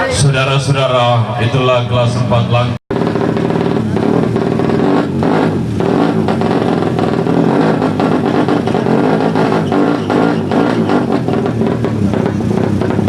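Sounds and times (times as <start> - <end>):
motorbike engines revving: 0.0 - 13.0.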